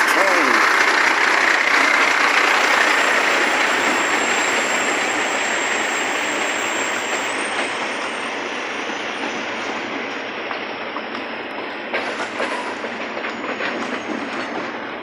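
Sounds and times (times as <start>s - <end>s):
freight train cars rattling: 0.0s - 15.0s.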